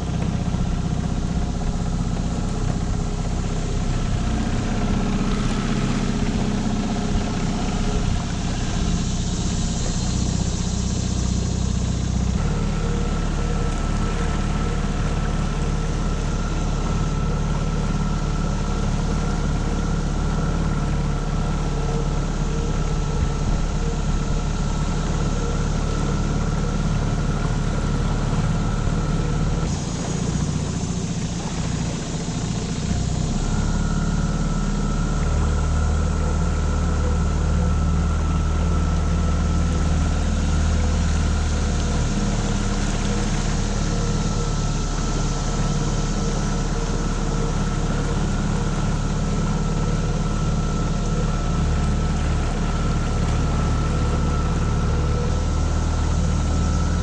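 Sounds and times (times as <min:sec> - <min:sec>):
outboard motor running: 0:00.0 - 0:57.0
water and wind hiss: 0:00.0 - 0:57.0.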